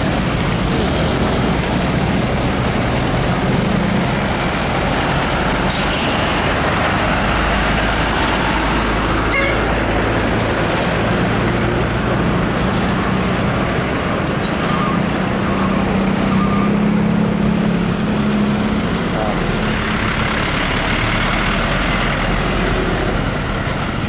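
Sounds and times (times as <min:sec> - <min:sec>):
road traffic noise: 0:00.0 - 0:24.0
truck diesel engine droning: 0:00.0 - 0:24.0.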